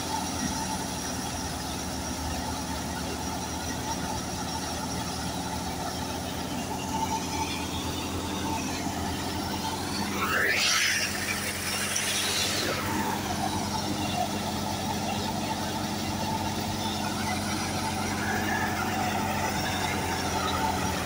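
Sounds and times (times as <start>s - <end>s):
thresher whirring: 0.0s - 21.0s
tractor diesel engine running: 0.0s - 21.0s.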